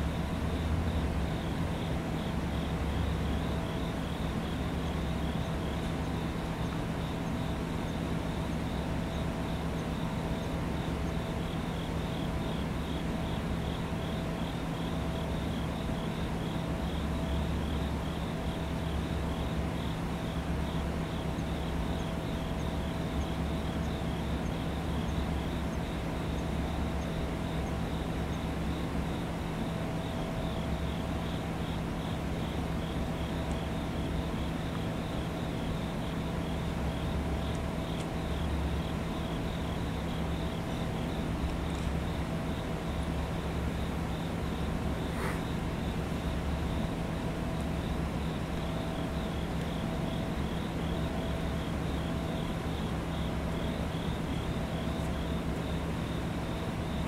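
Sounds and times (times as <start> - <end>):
train electrical hum: 0.0 - 57.0.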